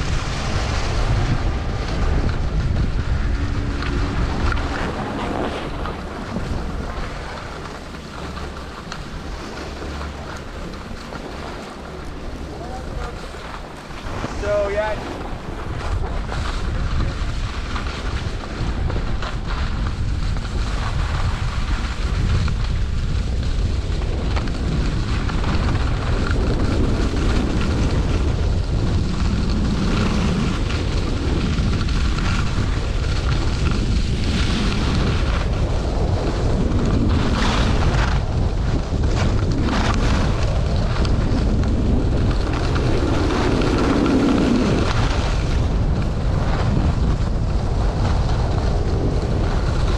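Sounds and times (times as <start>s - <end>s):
ski edges scraping packed snow: 0.0s - 49.9s
wind rushing over microphone: 0.0s - 49.9s.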